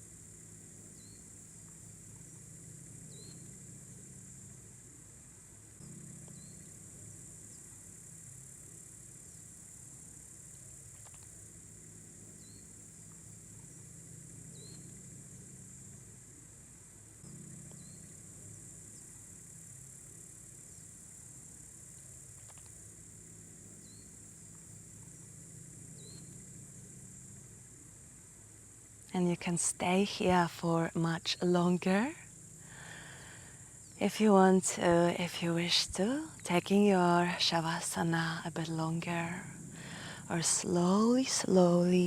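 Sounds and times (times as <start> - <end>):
crickets chirping: 0.0 - 42.0
faint low hum: 0.0 - 42.0.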